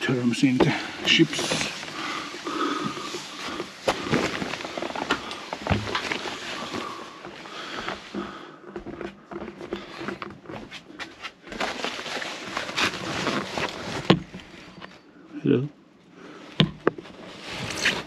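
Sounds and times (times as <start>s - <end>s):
plastic tarpaulin crinkling: 0.0s - 8.4s, 9.7s - 15.1s, 17.0s - 18.0s
knocks and scrapes: 0.4s - 15.0s.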